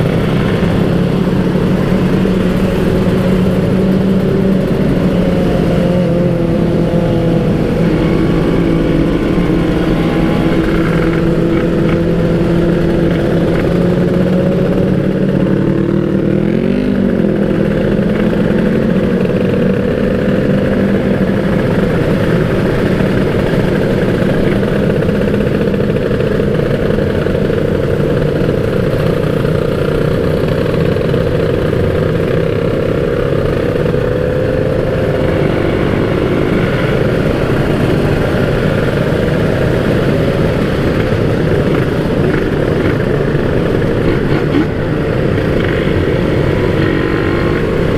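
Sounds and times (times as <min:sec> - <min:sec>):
two-stroke motorcycle engine running: 0:00.0 - 0:47.9.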